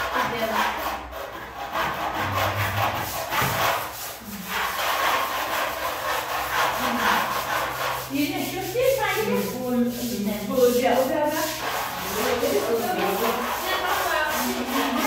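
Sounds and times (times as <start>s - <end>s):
rough rasping strokes: 0.0s - 15.0s.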